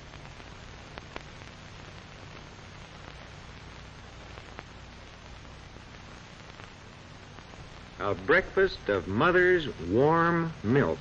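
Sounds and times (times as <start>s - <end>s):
faint crackles and pops: 0.0s - 11.0s
film soundtrack hiss and hum: 0.0s - 11.0s.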